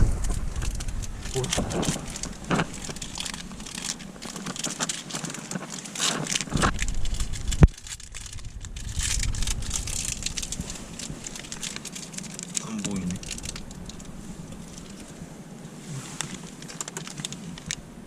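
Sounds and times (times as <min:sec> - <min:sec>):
car road noise: 0:00.0 - 0:18.0
rustling and crinkling: 0:00.0 - 0:18.0.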